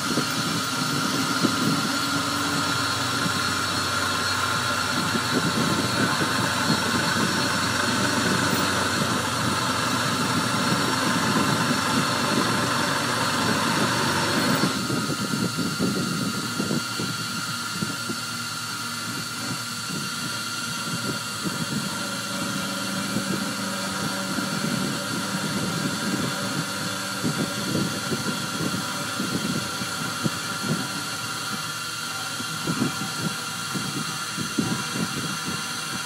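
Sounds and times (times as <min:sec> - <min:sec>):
milling machine whine: 0:00.0 - 0:36.0.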